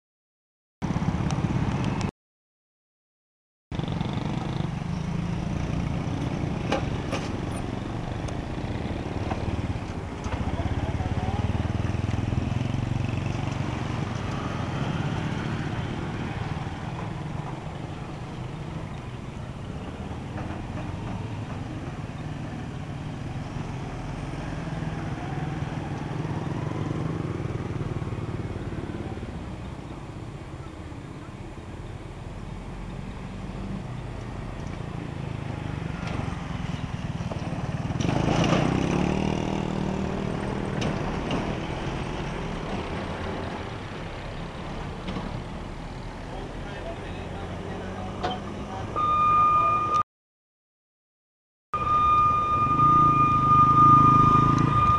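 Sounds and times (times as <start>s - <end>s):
motorcycle and traffic engines: 0.8s - 2.1s, 3.7s - 50.0s, 51.8s - 54.9s.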